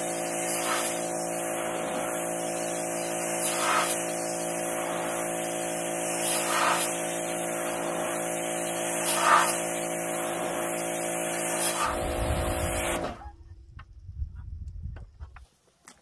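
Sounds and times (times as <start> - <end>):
pressure washer motor hum: 0.0 - 13.2
pressure washer water spray: 0.0 - 13.2.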